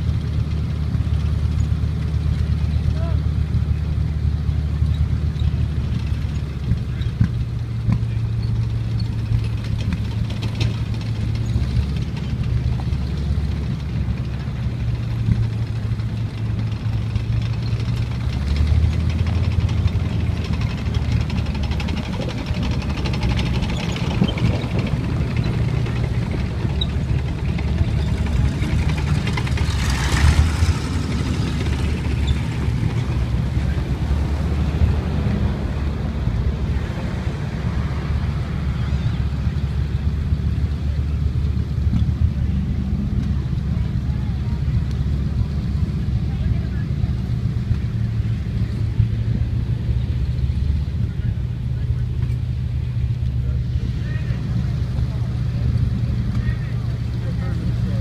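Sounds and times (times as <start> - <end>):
armoured vehicle engines droning: 0.0 - 58.0.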